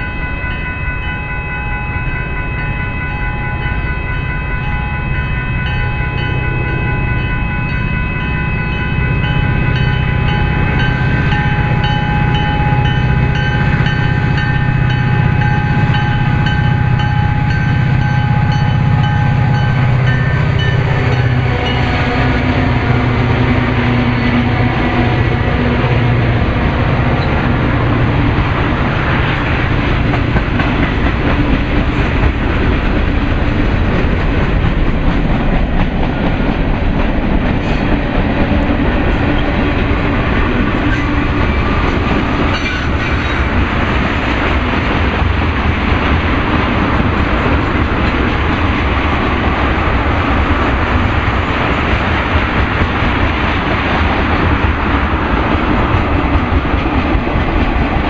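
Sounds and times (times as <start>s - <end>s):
train wheels rolling on rail: 0.0s - 58.0s.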